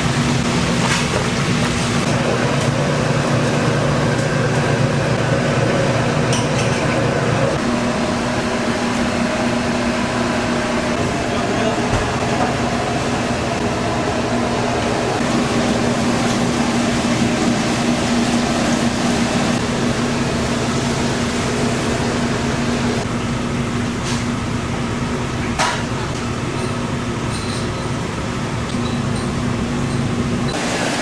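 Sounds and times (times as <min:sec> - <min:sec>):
kitchen equipment humming: 0:00.0 - 0:31.0.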